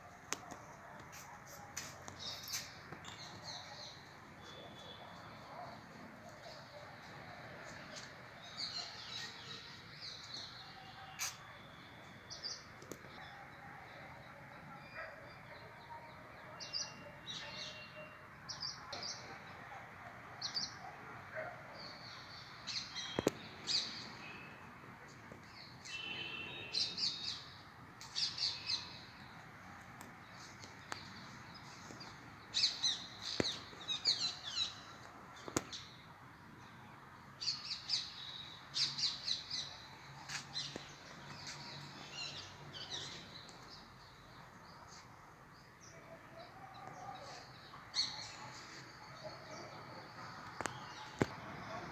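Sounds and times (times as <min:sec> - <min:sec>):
faint outdoor background noise: 0:00.0 - 0:51.9.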